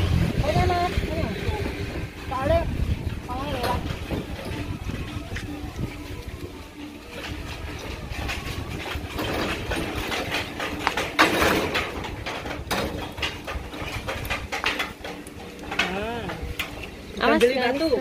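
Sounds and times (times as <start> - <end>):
metal cart rattling on rough ground: 0.0 - 18.0.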